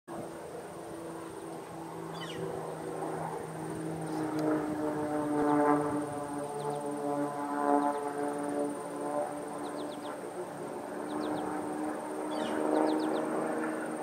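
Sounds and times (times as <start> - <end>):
propeller plane engine droning: 0.1 - 14.0.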